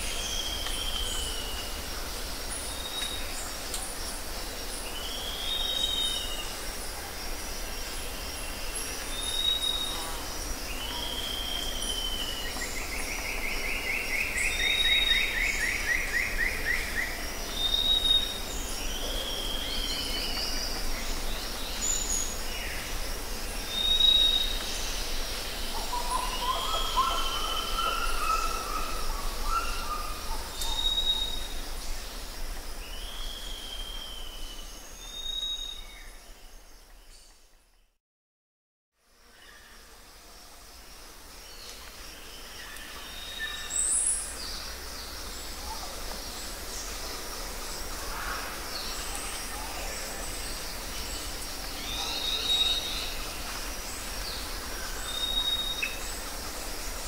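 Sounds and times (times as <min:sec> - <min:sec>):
steady hiss: 0:00.0 - 0:36.8, 0:39.1 - 0:57.0.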